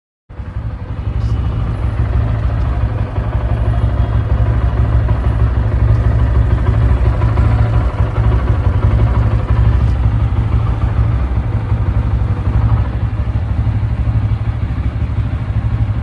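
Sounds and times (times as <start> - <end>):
motorcycle engine idling: 0.3 - 16.0.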